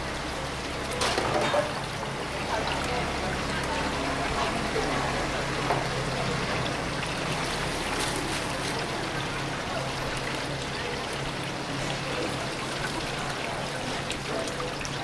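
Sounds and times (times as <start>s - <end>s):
chicken sizzling in deep fryer: 0.0s - 15.0s.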